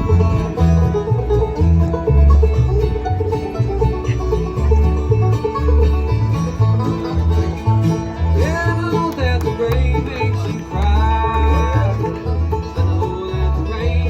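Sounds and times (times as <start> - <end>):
banjo: 0.0 - 14.0
bouncing bass line: 0.0 - 14.0
guitar: 0.0 - 14.0
sliding lead line: 0.0 - 14.0.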